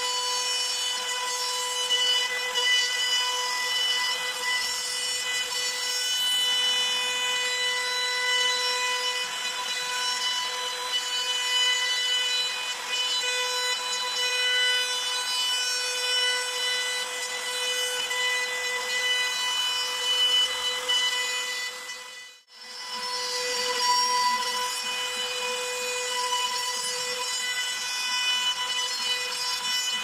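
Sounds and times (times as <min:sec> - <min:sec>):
router cutting plywood whine: 0:00.0 - 0:30.0.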